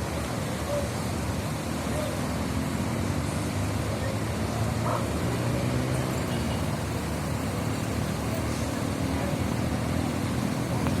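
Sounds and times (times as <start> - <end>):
bus engine humming: 0.0 - 11.0
street traffic: 0.0 - 11.0.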